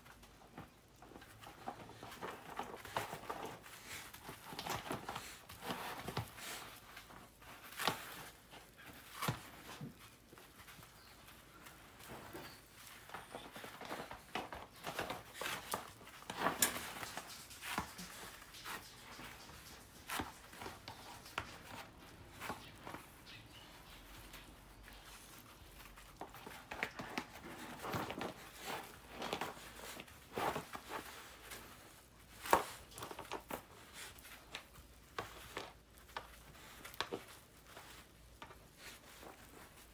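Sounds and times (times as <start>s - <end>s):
dog paws pattering: 0.0s - 39.9s.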